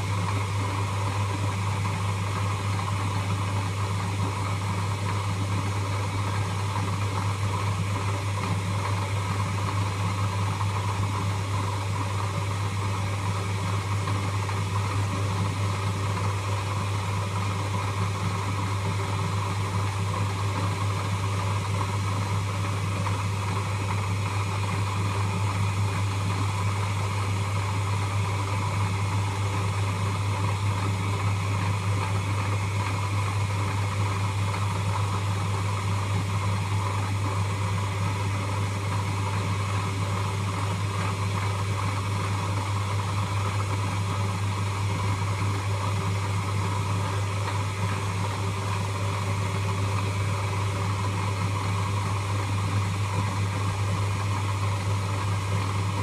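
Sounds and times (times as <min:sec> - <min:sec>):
lathe running: 0:00.0 - 0:56.0.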